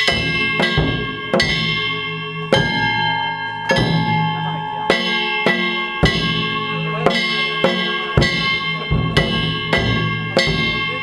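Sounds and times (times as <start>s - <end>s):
deep taiko drum beats: 0.0s - 11.0s
metal hand gongs ringing: 0.0s - 11.0s.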